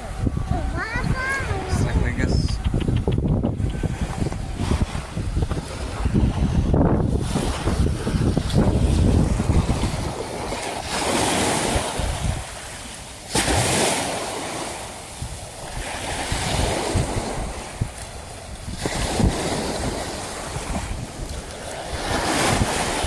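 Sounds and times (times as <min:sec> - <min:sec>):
sea waves washing against harbour: 0:00.0 - 0:23.0
wind buffeting microphone: 0:00.0 - 0:23.0.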